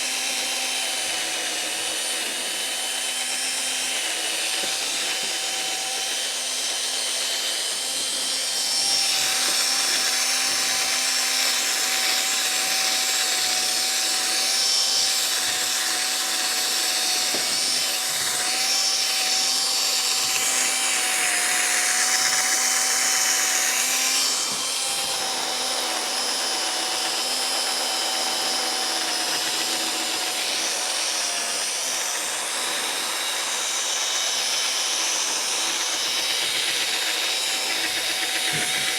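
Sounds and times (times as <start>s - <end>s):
drill polishing plastic lens: 0.0s - 38.9s.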